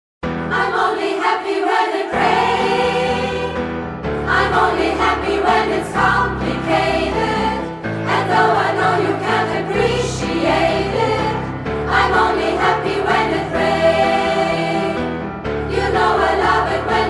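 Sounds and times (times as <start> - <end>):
women's choir singing: 0.5 - 17.0.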